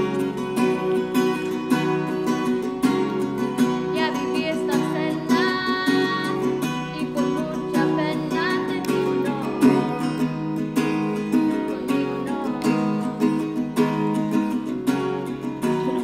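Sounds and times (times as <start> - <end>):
acoustic guitar strumming: 0.0 - 16.0
girl singing: 0.3 - 16.0.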